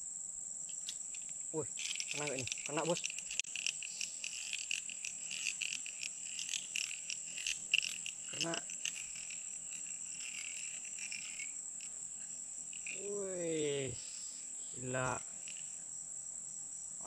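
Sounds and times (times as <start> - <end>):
insects chirping: 0.0 - 17.0
insects droning: 0.0 - 17.0.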